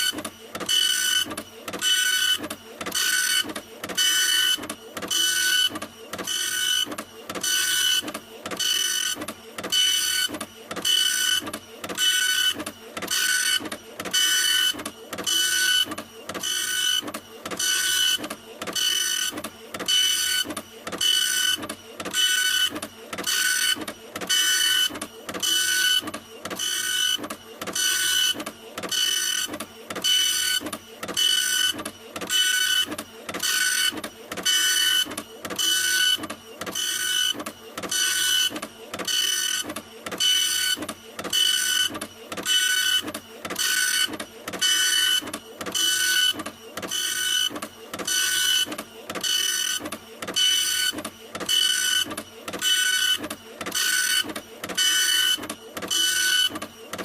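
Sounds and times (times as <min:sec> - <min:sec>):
printer whining mechanically: 0:00.0 - 0:57.0.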